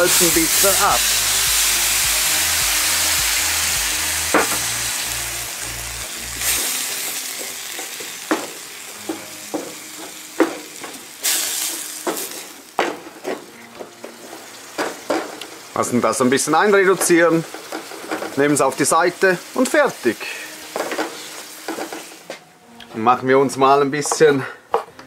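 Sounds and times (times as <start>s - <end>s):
food sizzling in a pan: 0.0s - 22.4s.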